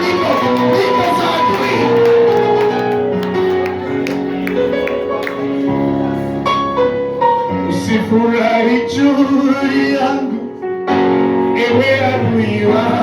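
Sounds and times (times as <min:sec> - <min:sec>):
worship band keyboard chords: 0:00.0 - 0:13.0.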